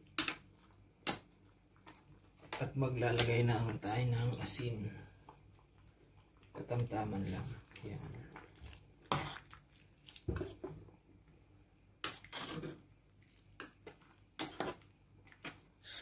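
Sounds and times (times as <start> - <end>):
soft stirring sounds: 0.0 - 16.0.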